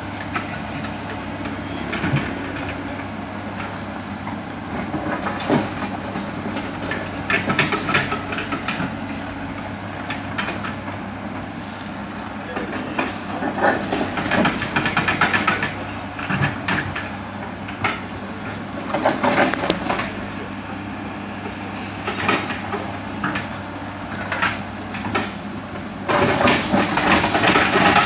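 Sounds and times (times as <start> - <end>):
diesel engine hum: 0.0 - 28.0
steel tracks clanking and rattling: 0.0 - 28.0.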